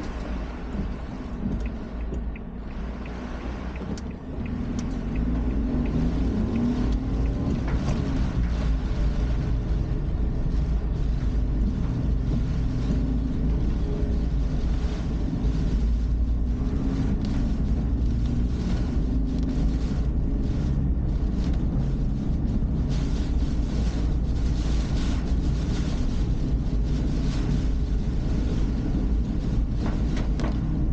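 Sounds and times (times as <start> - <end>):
car engine and tyre rumble: 0.0 - 30.9.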